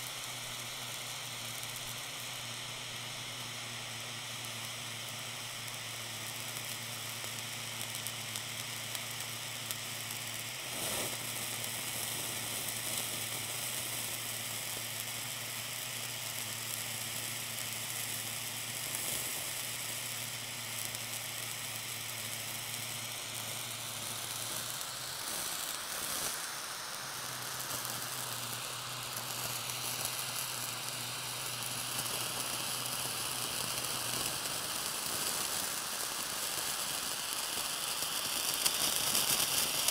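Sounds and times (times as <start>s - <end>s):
blowtorch hissing: 0.0s - 39.9s
cheese sizzling: 0.0s - 39.9s.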